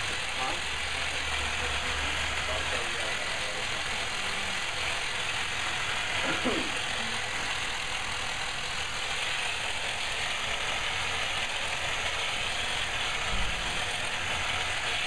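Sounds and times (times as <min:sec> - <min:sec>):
machine whirring: 0:00.0 - 0:15.0.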